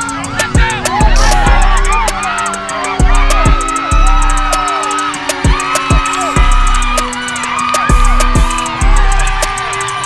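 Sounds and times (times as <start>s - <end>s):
background music melody: 0.0s - 10.0s
fast hi-hat ticks: 0.0s - 10.0s.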